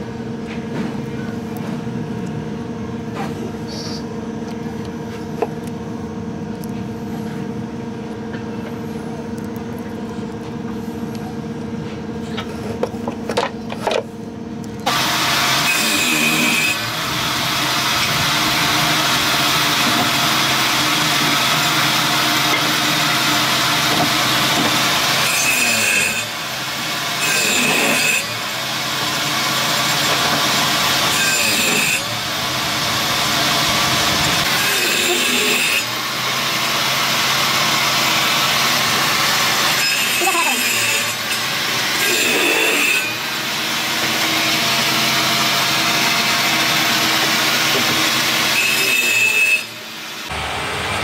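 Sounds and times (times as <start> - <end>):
loud machine hiss and hum: 0.0 - 51.0.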